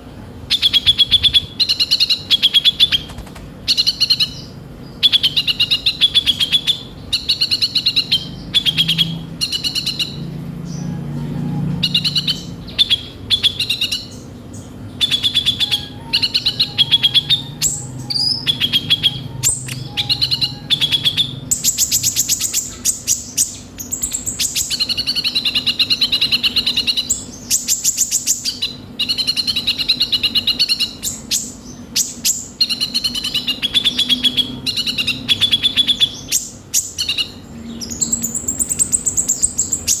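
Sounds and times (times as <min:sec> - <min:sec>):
sunbird singing buzzy trills: 0:00.0 - 0:40.0.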